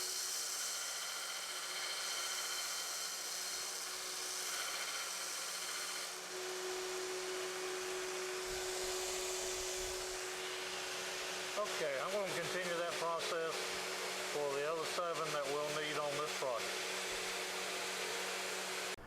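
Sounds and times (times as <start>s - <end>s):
belt grinder grinding steel: 0.0s - 19.0s
grinder motor hum: 0.0s - 19.0s.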